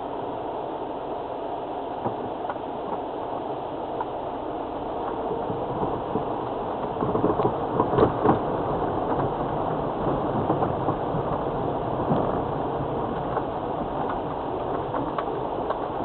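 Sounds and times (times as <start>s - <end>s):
car engine and tyre noise: 0.0s - 16.0s
rain: 0.0s - 16.0s.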